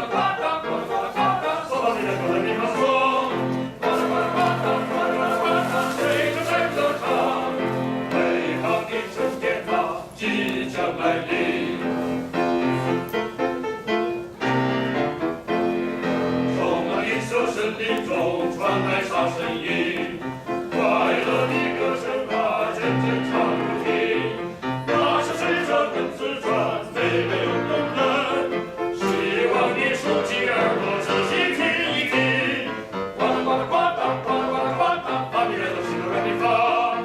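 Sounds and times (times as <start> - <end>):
men singing in harmony: 0.0 - 12.0, 16.5 - 37.0
piano accompaniment: 0.0 - 37.0.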